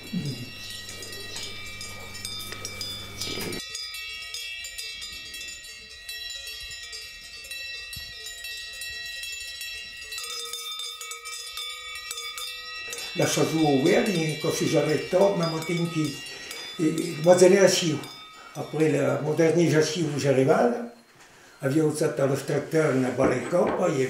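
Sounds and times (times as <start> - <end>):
cowbells ringing: 0.0 - 24.0.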